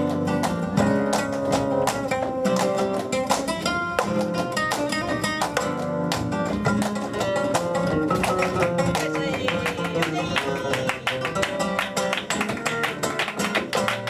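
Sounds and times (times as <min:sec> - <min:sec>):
flamenco guitar playing: 0:00.0 - 0:14.0.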